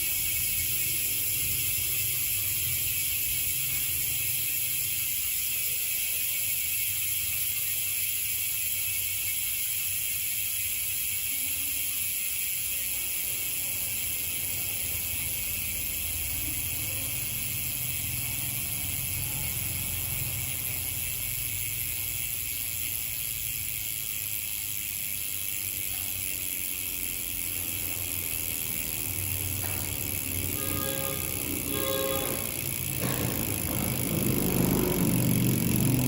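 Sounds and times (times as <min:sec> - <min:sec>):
bicycle hub freewheeling buzz: 0:00.0 - 0:36.0.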